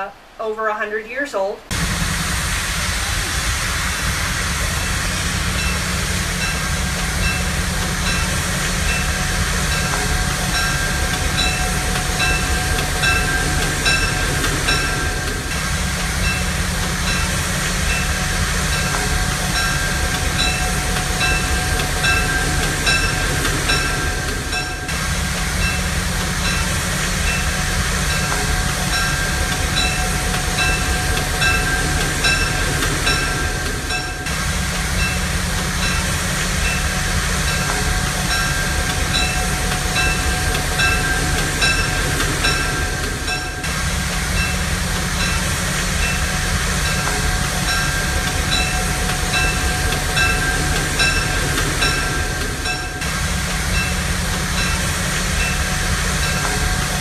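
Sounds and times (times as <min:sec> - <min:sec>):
thin steady whine: 0:00.0 - 0:57.0
train rumbling: 0:00.0 - 0:57.0
wheels clicking on rails: 0:01.7 - 0:57.0.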